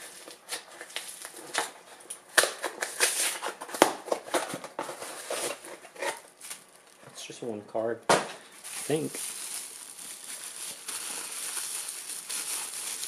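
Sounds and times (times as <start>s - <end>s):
bubble wrap crinkling and crackling: 0.0s - 13.0s.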